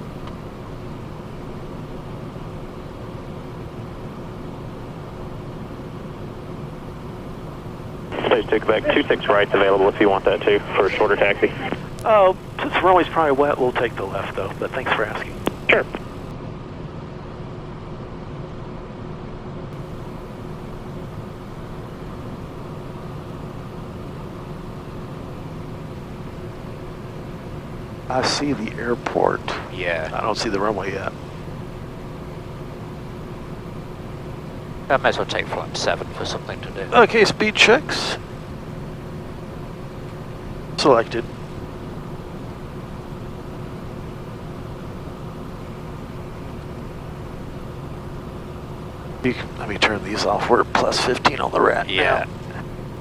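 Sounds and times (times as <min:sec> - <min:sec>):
faint steady hum: 0:00.0 - 0:53.0
faint steady tone: 0:00.0 - 0:53.0
jet cockpit airflow and engine noise: 0:00.0 - 0:53.0.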